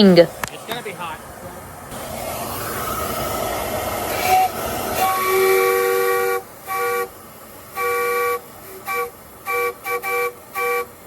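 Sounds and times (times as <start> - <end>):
steam hissing: 0.0 - 11.0
steam whistle chord: 2.0 - 11.0.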